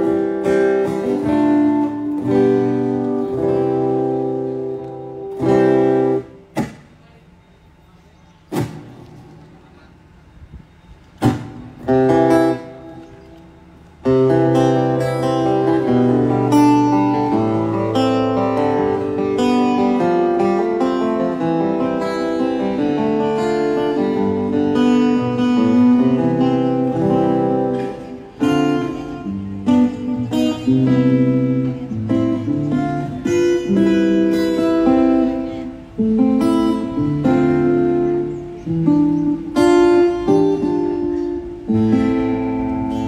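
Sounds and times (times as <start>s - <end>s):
amplified acoustic guitar: 0.0s - 43.0s.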